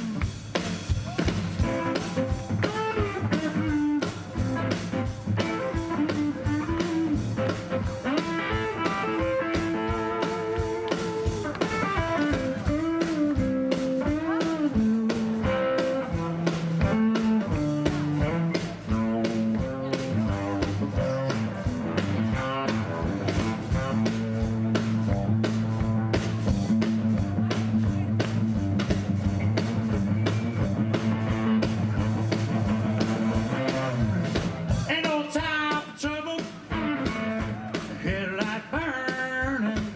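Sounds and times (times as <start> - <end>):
electric guitar lead lines: 0.0 - 34.9, 36.6 - 37.7
blues band playing: 0.0 - 39.9.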